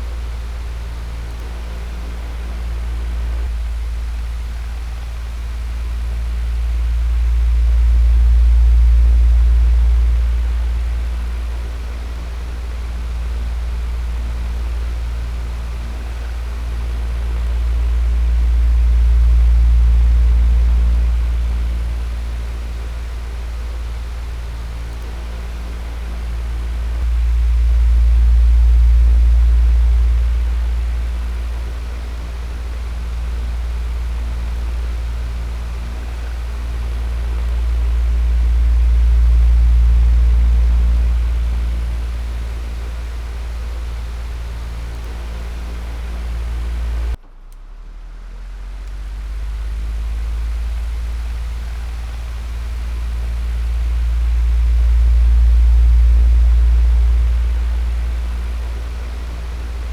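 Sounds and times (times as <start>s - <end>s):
electric fan humming: 0.0s - 47.2s, 48.6s - 59.9s.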